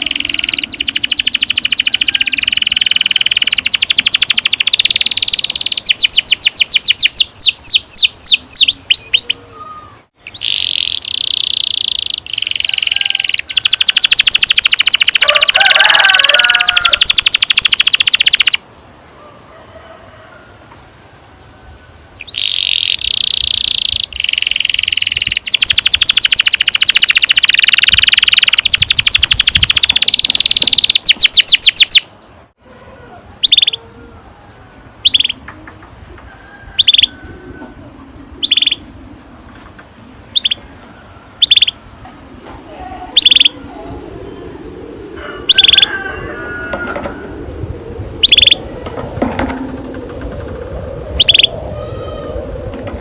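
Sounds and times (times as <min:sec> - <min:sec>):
canary singing rolling trills: 0:00.0 - 0:20.3, 0:21.3 - 0:53.0.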